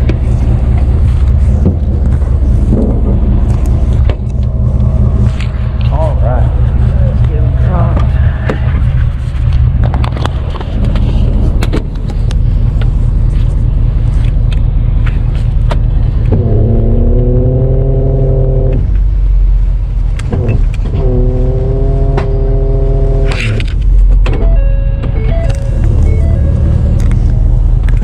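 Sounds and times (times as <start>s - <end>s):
high whine: 0.0s - 28.0s
truck engine droning: 0.0s - 28.0s.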